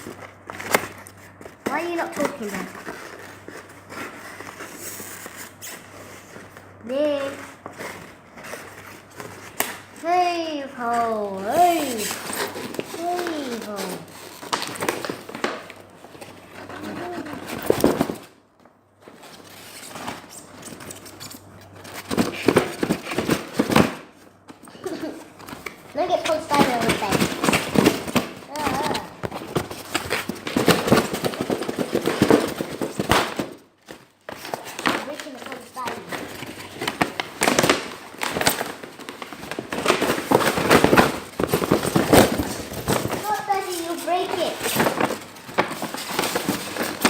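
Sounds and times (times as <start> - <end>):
cardboard and polystyrene scraping: 0.0 - 18.3, 19.1 - 24.2, 24.8 - 47.0.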